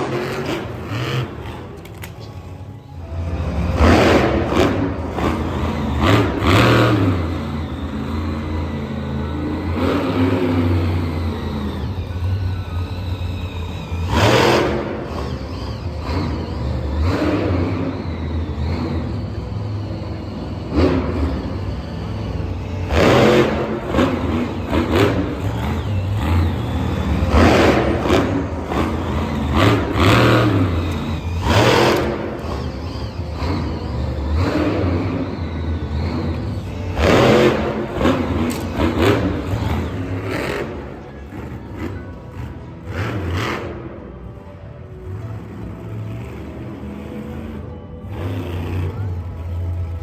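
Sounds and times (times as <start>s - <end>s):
engine revving: 0.0s - 50.0s.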